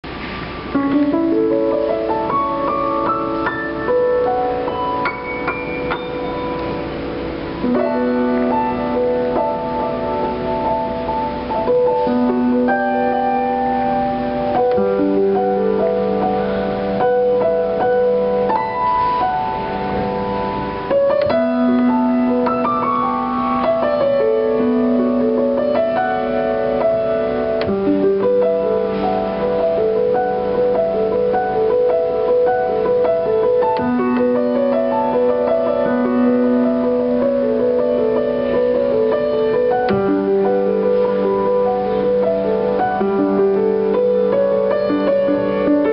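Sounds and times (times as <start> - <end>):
piano playing improvised tune: 0.0 - 45.9.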